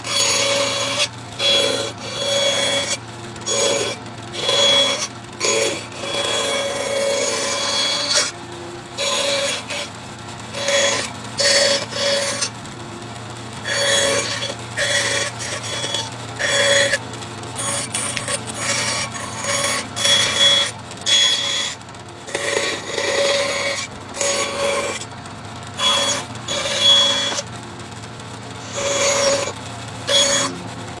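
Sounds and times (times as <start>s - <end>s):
hand saw cutting wood: 0.0s - 12.7s, 13.6s - 27.6s, 28.5s - 31.0s.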